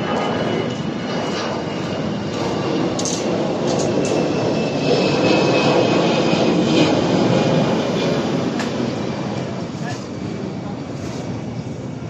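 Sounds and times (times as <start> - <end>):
engine-like rumble: 0.0 - 12.0.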